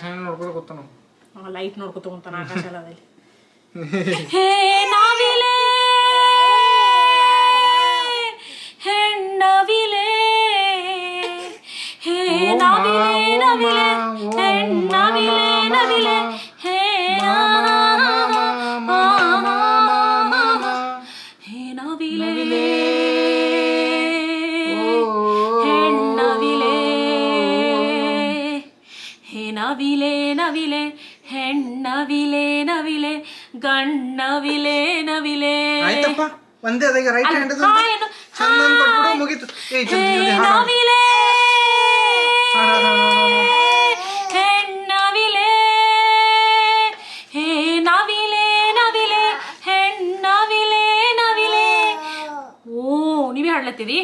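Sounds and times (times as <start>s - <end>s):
woman singing unaccompanied: 4.2s - 36.3s, 37.5s - 54.0s.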